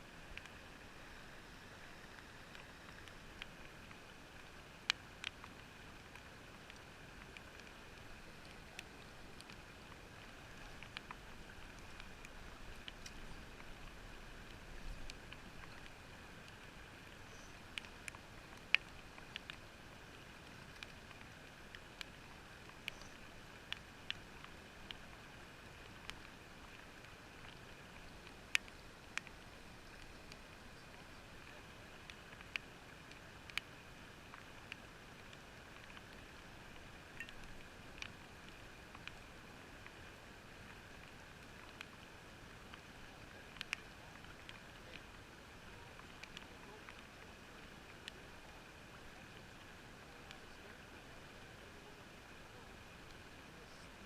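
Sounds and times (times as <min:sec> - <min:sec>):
muffled outdoor ambience hiss: 0:00.0 - 0:54.0
small clicks and ticks: 0:00.0 - 0:54.0.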